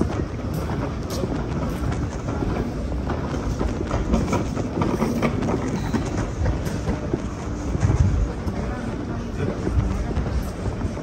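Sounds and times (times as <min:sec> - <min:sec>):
handheld microphone rumble: 0:00.0 - 0:11.0.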